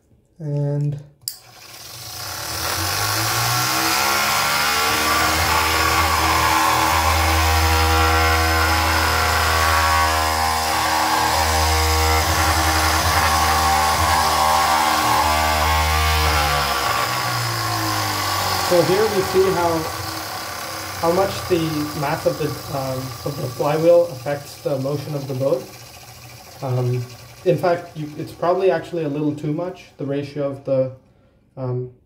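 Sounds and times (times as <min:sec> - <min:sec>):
electric motor whine: 0:01.4 - 0:29.4.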